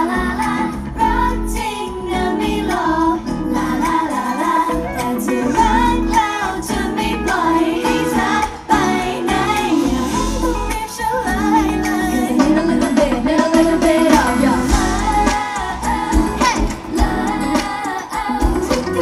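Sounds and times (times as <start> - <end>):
loud pop music with heavy bass: 0.0 - 19.0
woman singing pop vocals: 0.0 - 19.0.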